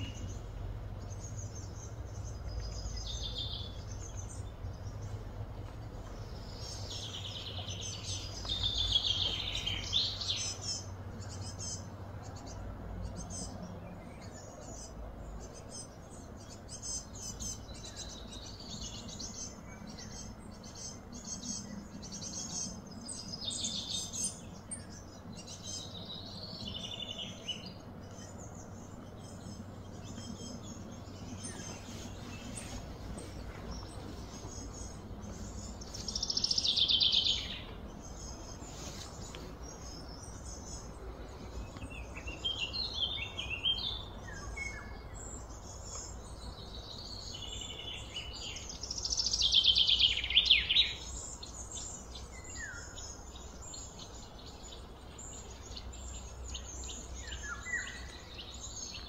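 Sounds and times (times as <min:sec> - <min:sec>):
steady low hum: 0:00.0 - 0:49.3
birds chirping and singing: 0:00.0 - 0:59.0.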